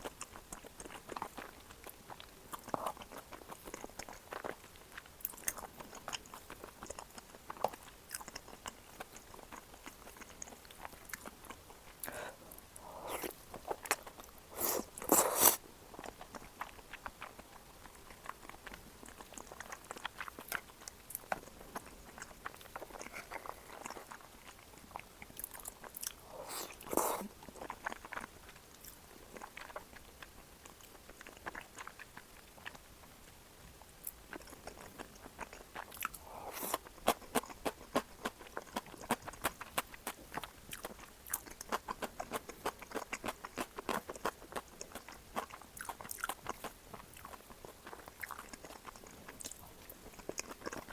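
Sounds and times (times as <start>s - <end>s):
chewing and biting food: 0.0s - 50.9s.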